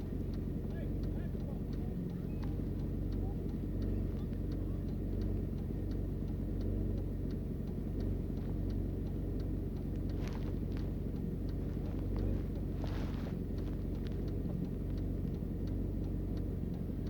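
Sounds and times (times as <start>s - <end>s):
car engine idling: 0.0s - 17.0s
light ticks: 0.0s - 17.0s.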